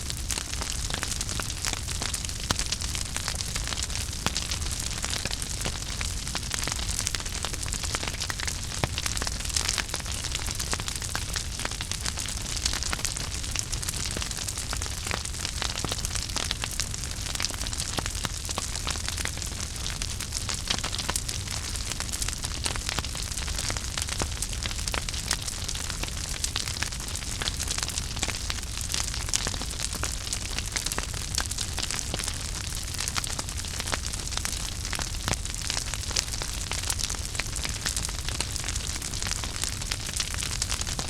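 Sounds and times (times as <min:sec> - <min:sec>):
low rumble of flames: 0:00.0 - 0:41.0
wood fire crackling and popping: 0:00.0 - 0:41.0.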